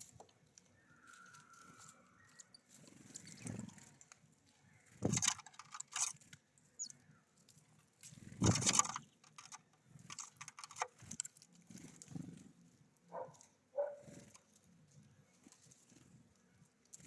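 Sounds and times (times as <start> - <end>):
birds flurrying: 0.7 - 7.3, 8.1 - 17.0.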